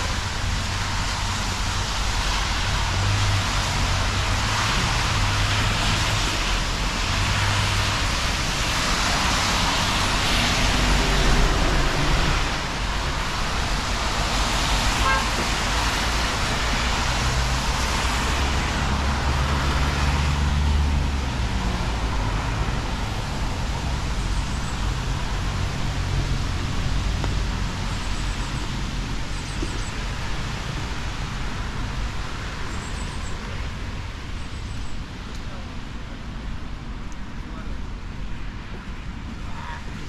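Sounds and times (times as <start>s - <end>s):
steady traffic hiss: 0.0s - 40.0s
vehicle engine rumble: 0.0s - 40.0s.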